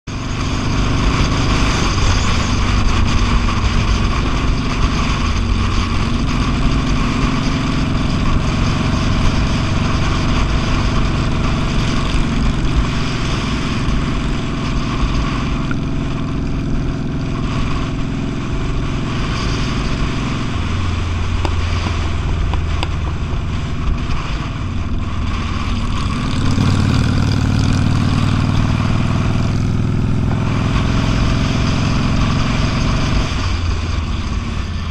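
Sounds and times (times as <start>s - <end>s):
motorcycle engine running: 0.0s - 34.9s
road and wind noise: 0.0s - 34.9s.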